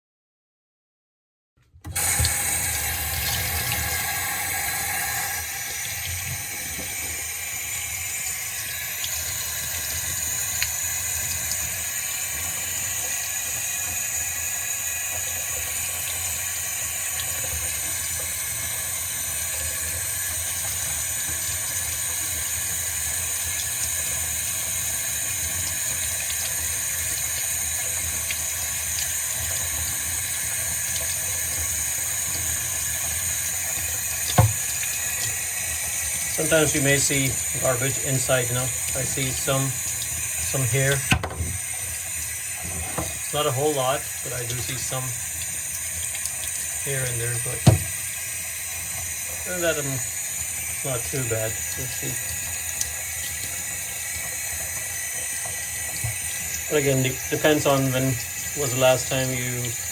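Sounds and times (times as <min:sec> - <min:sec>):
tap water running into sink: 0:01.8 - 0:59.9.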